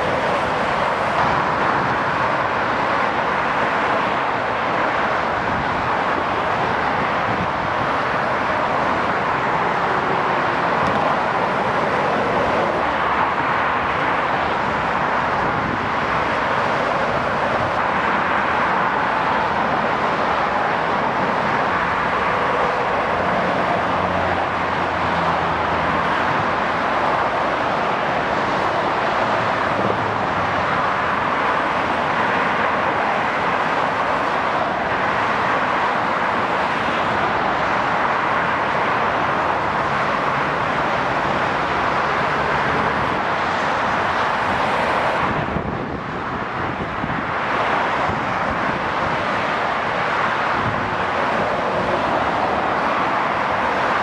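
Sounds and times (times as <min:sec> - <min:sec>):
tyre roar of passing traffic: 0:00.0 - 0:54.0.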